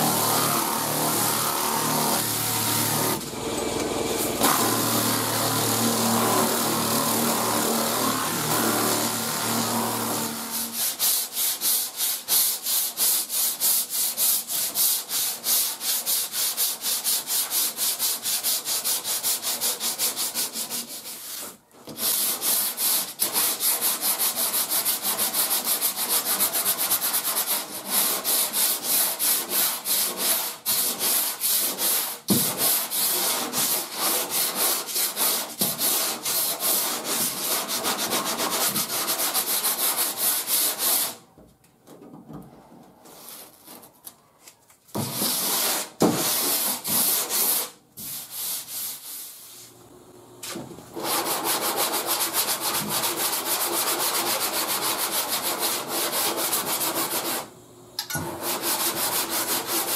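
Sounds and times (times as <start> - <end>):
hand sanding with sanding block: 4.2 - 41.3, 43.1 - 44.0, 45.0 - 49.8, 50.5 - 57.5, 58.4 - 59.9.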